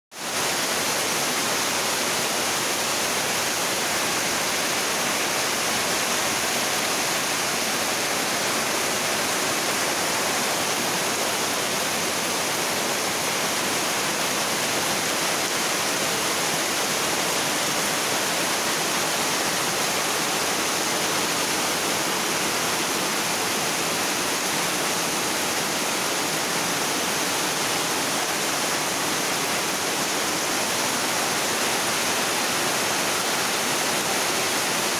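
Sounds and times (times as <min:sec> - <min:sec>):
heavy rain on metal roof: 0:00.1 - 0:34.9.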